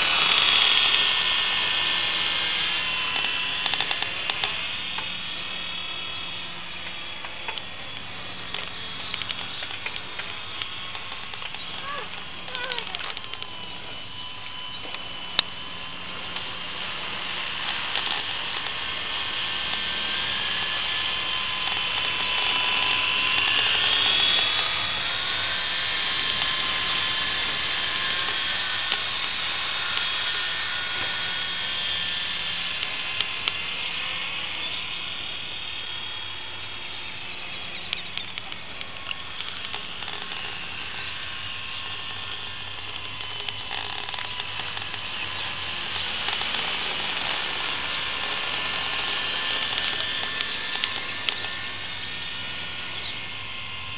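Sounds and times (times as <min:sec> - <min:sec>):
rc helicopter motor whining: 0:00.0 - 0:53.9.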